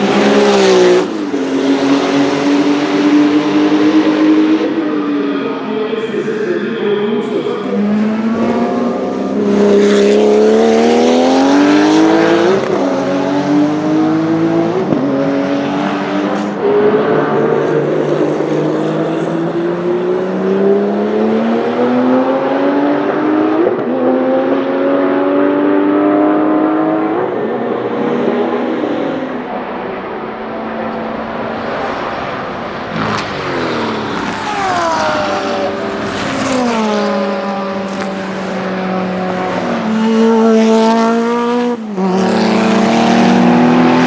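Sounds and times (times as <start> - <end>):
race car accelerating through gears: 0.0 - 5.7, 7.4 - 44.0.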